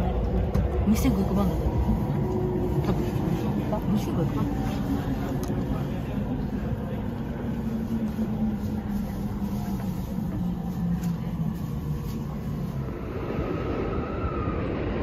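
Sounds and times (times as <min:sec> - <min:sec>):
electric train rumbling inside carriage: 0:00.0 - 0:15.0.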